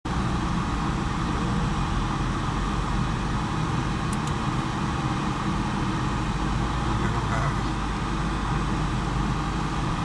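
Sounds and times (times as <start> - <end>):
engine running from inside cabin: 0.1 - 10.0.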